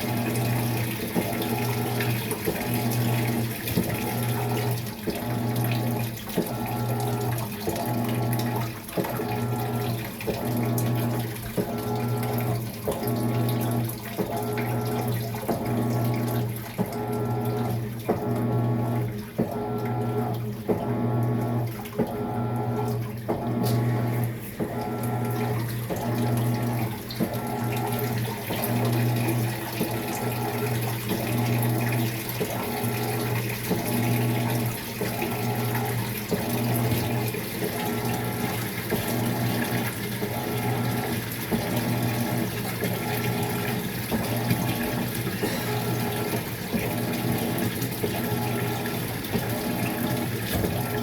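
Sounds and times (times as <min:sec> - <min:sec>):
pulsing washing machine motor hum: 0:00.0 - 0:51.0
water rushing into tub: 0:00.0 - 0:51.0.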